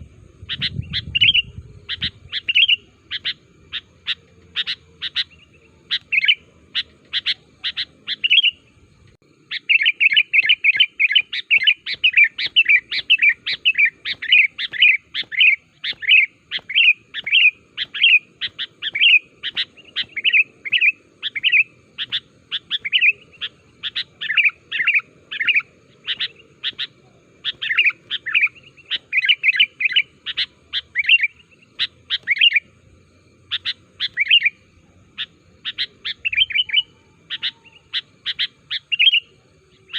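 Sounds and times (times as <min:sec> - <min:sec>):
bulbul chirping: 0:00.4 - 0:08.8, 0:09.4 - 0:39.9.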